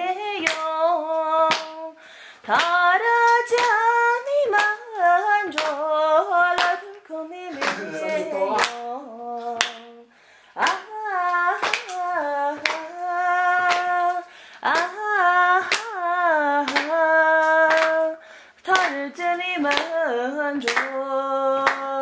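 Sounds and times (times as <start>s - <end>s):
person singing slow melody: 0.0s - 22.0s.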